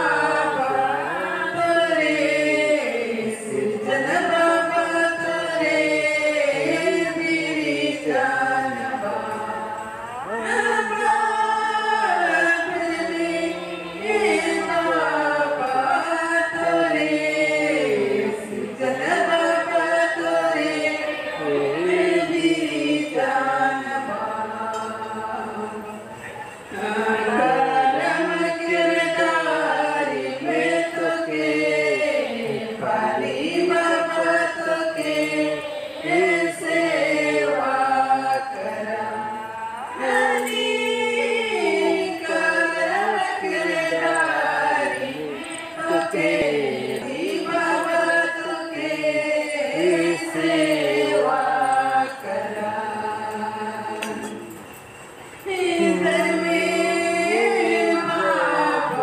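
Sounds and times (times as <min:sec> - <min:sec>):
women singing unaccompanied: 0:00.0 - 0:59.0.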